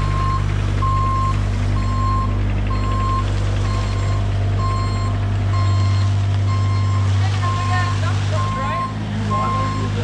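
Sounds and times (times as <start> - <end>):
diesel engine running: 0.0 - 10.0
travel alarm beeping: 0.0 - 10.0.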